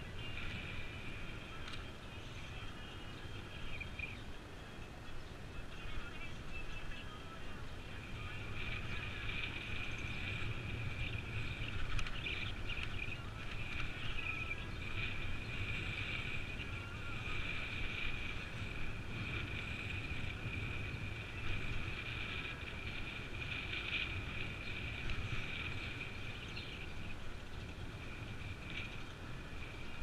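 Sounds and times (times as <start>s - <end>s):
road rumble: 0.0s - 30.0s
wind noise: 3.4s - 30.0s.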